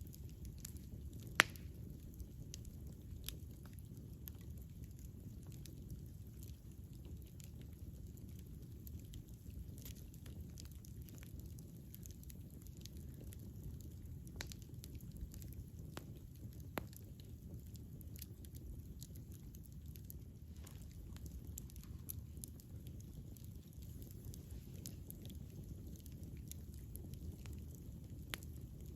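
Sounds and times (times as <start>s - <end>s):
wood fire crackling and popping: 0.0s - 28.9s.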